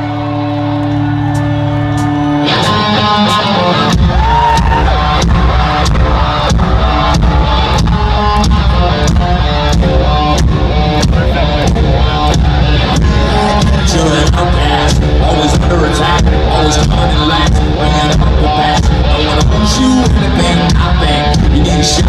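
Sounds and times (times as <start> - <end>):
metal band playing loud: 0.0 - 22.0.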